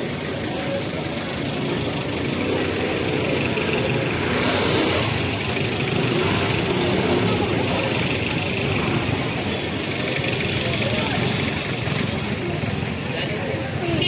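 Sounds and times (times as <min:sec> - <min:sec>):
people chattering: 0:00.0 - 0:14.0.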